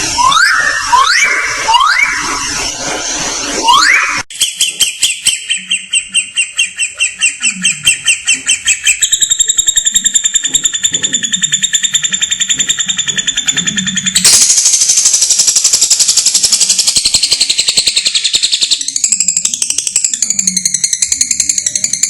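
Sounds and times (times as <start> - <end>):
songbird whistle and trill: 0.0 - 2.5, 3.6 - 22.0.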